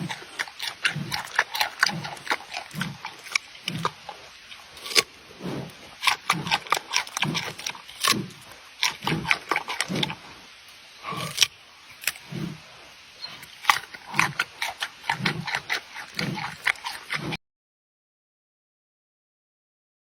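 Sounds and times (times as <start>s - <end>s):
panda chewing and crunching: 0.0s - 10.4s, 11.0s - 17.4s.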